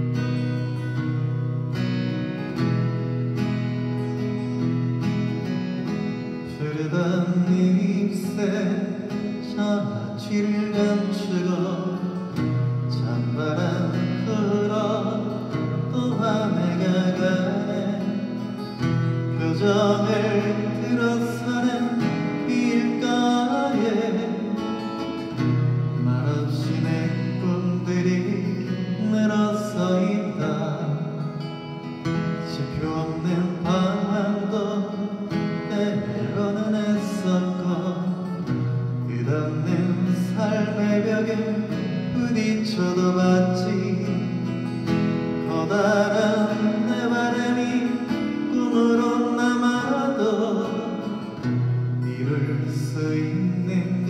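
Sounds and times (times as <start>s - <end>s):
acoustic guitar: 0.0s - 54.0s
man singing into a microphone: 6.3s - 31.5s, 32.2s - 54.0s.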